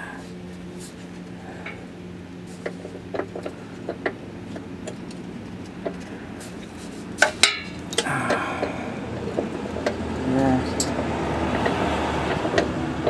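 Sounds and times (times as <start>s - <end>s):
steady low hum: 0.0s - 13.0s
vehicle engine: 0.0s - 13.0s.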